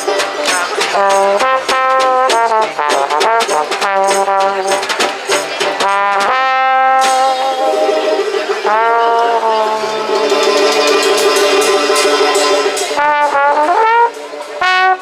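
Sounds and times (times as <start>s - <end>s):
drums played with brushes: 0.0s - 15.0s
strummed banjo: 0.0s - 15.0s
trombone playing swing jazz melody: 0.0s - 15.0s.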